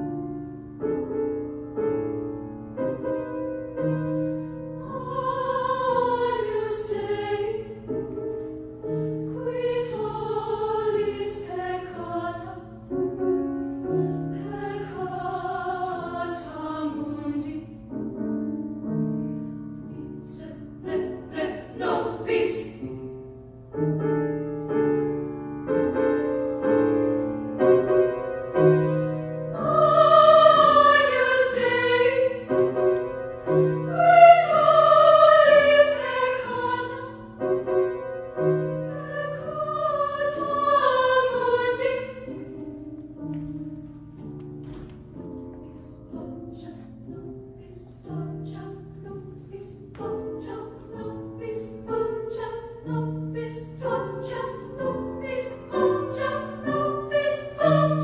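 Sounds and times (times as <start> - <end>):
women's choir singing: 3.6 - 18.5, 19.8 - 23.2, 25.7 - 43.5, 44.6 - 58.0.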